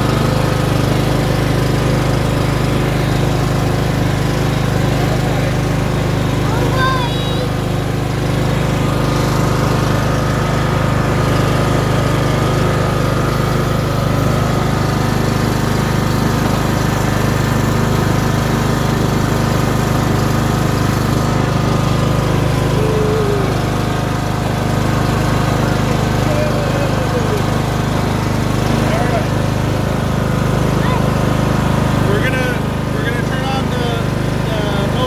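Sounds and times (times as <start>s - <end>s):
riding mower engine running: 0.0s - 35.0s.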